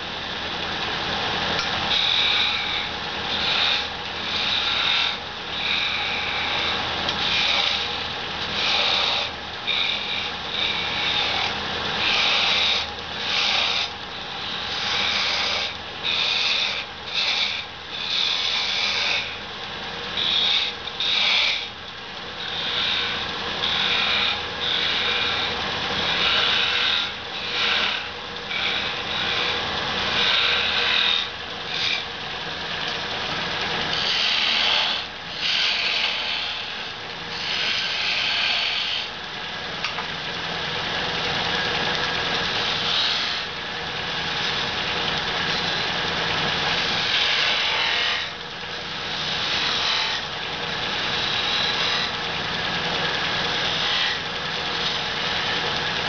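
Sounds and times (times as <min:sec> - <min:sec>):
lathe running drone: 0:00.0 - 0:56.0
turning tool rasping wood: 0:00.0 - 0:56.0.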